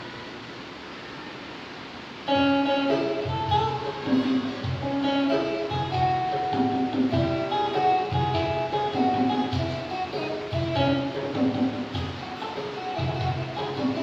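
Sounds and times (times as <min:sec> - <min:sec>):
acoustic guitar strumming chords: 0:02.2 - 0:14.0.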